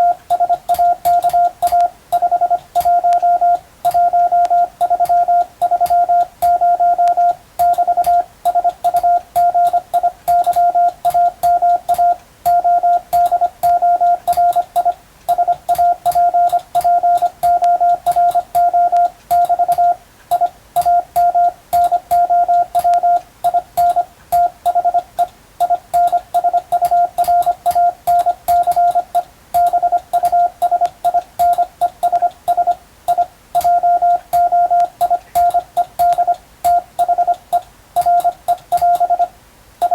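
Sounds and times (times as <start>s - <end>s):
keying clicks: 0.0s - 39.9s
morse code tone: 0.0s - 39.9s.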